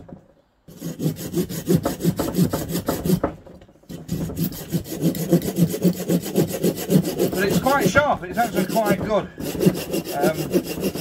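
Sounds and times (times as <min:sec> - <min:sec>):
hand saw cutting log: 0:00.7 - 0:11.0.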